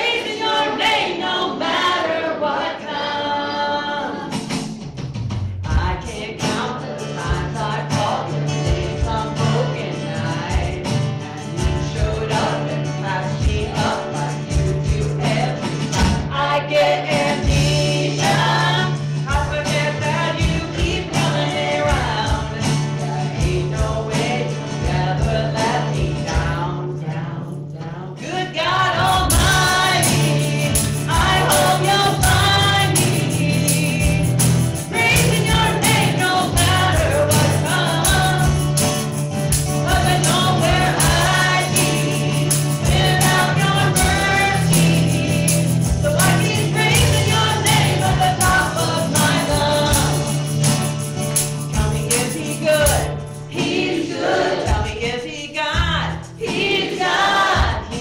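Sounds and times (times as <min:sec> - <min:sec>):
voices singing: 0:00.0 - 0:04.7, 0:05.7 - 0:58.0
band playing steady beat: 0:04.2 - 0:26.7, 0:29.0 - 0:58.0.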